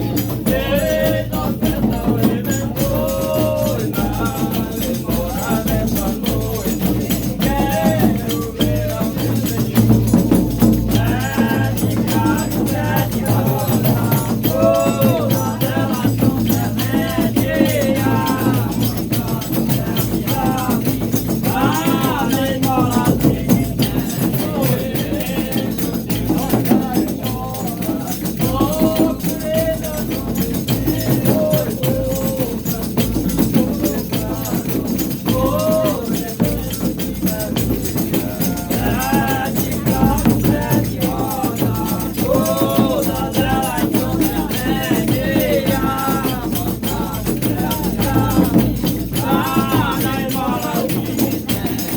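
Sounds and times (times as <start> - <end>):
shaken rattles and percussion: 0.0 - 51.9
voices singing: 0.0 - 51.9.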